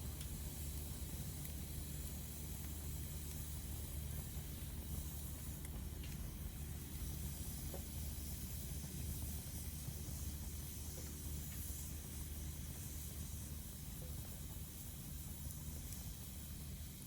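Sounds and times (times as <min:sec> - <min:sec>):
fire crackles: 0:00.0 - 0:17.0
fire hissing: 0:00.0 - 0:17.0.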